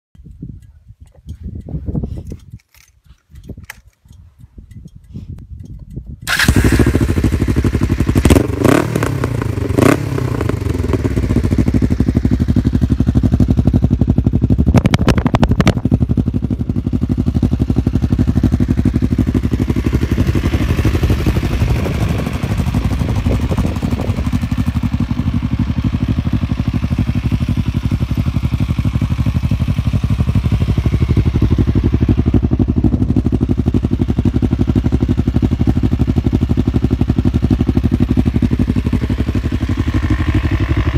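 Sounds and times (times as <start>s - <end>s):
motorcycle engine revving and idling: 3.4s - 40.9s.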